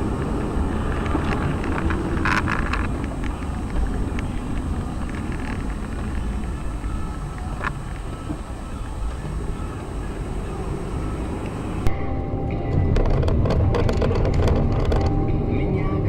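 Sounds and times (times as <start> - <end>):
car driving: 0.0 - 16.0.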